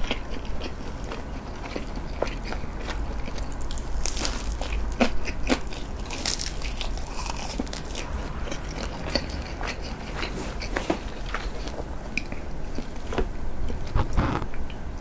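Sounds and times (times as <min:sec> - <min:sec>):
biting and chewing: 0:00.0 - 0:14.8.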